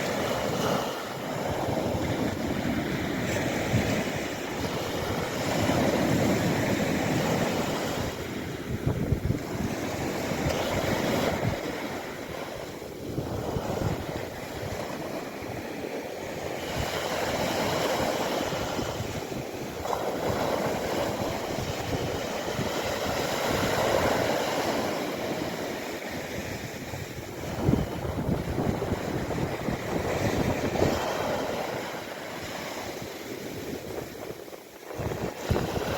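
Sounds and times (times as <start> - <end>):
sea waves breaking on shore: 0.0 - 35.9
wind buffeting microphone: 0.0 - 35.9.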